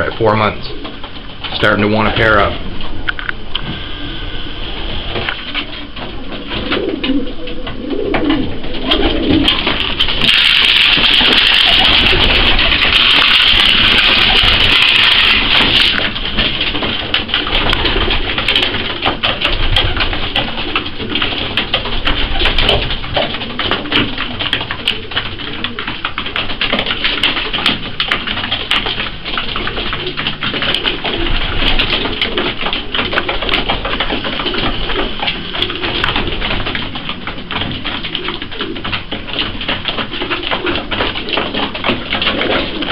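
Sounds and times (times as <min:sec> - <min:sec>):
pigeons cooing: 0:00.0 - 0:42.9
beaks pecking grain on wood: 0:05.1 - 0:42.9.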